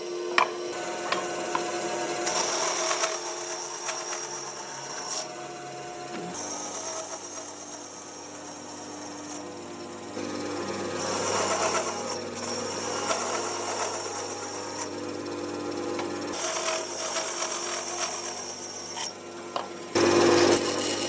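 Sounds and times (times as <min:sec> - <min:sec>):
power tools running on wood: 0:00.0 - 0:09.4, 0:10.2 - 0:21.0.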